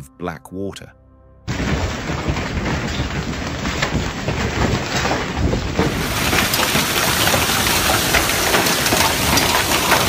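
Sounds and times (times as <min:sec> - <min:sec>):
hailstones pelting pool and paving: 0:01.5 - 0:10.0
wind buffeting microphone: 0:01.5 - 0:10.0.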